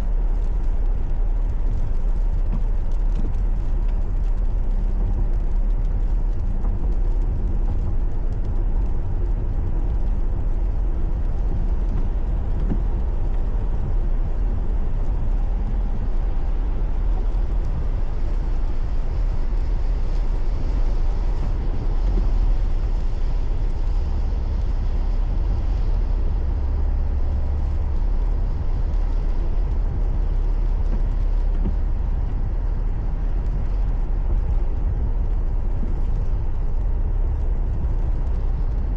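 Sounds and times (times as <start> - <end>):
car engine inside cabin: 0.0 - 38.9
tyre noise on road: 0.0 - 38.9.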